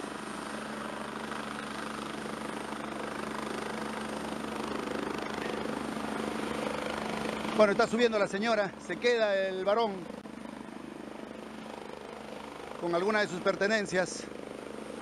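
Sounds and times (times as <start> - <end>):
helicopter engine and rotors: 0.0 - 15.0.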